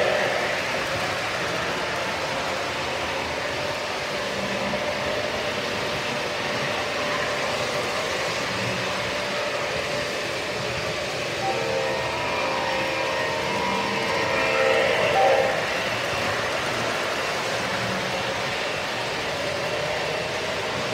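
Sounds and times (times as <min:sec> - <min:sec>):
model train wheels rumbling: 0:00.0 - 0:20.9.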